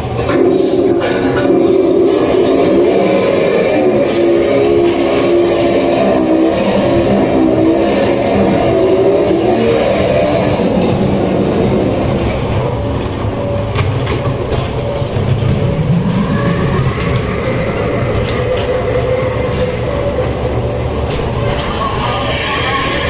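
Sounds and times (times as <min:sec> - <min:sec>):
track clicks: 0:00.0 - 0:22.1
ride car rumbling along track: 0:00.0 - 0:23.0
ride soundtrack of held tones: 0:00.1 - 0:23.0.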